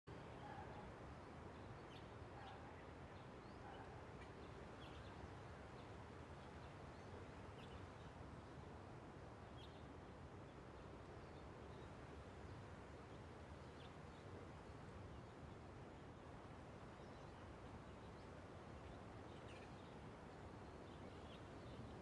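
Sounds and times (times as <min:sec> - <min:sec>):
steady low hiss: 0:04.0 - 0:22.0.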